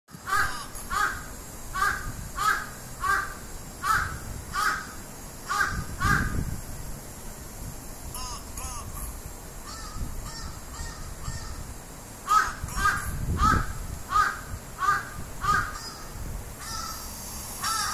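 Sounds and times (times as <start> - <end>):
crow cawing: 0.2 - 6.4, 8.2 - 8.8, 9.6 - 17.9.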